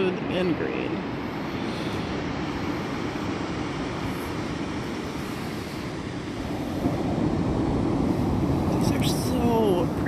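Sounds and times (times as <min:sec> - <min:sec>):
ocean surf breaking: 0:00.0 - 0:10.0.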